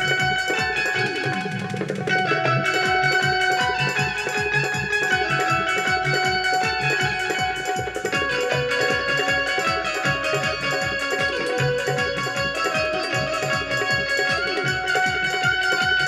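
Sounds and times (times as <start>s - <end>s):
fast drum beat: 0.0s - 16.0s
keyboard melody: 0.0s - 16.0s.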